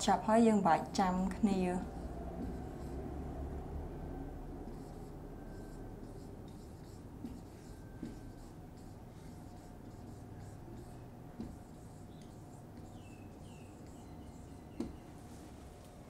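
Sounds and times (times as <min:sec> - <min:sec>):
marker writing on whiteboard: 0:00.4 - 0:03.2, 0:04.5 - 0:15.3.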